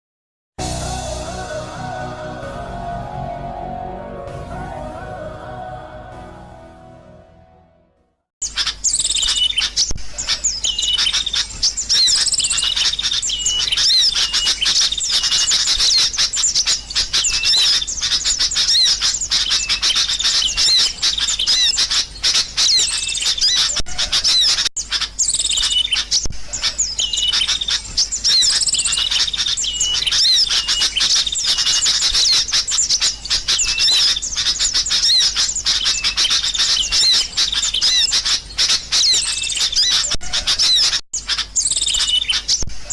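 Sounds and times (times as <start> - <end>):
flock of birds chirping: 8.4 - 42.9.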